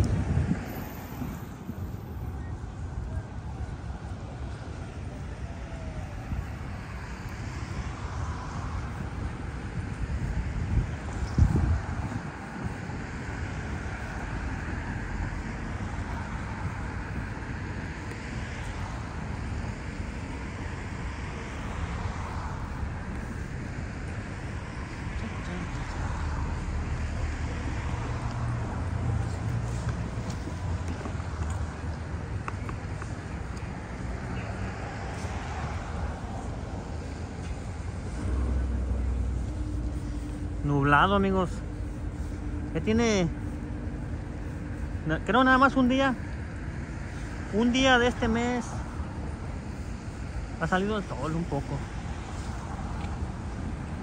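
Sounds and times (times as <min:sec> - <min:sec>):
wind buffeting microphone: 0:00.0 - 0:45.6
rumble of passing cars: 0:00.0 - 0:54.0
vehicle passing by: 0:00.0 - 0:54.0.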